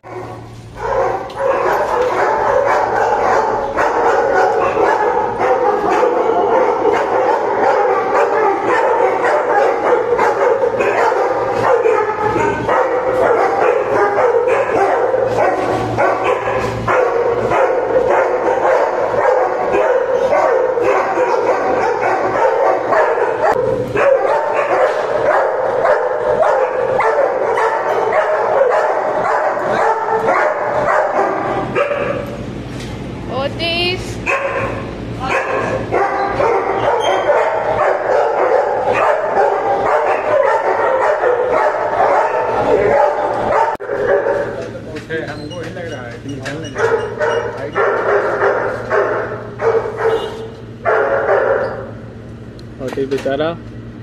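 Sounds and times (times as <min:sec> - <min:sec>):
many dogs barking: 0:00.0 - 0:32.4, 0:34.2 - 0:52.4.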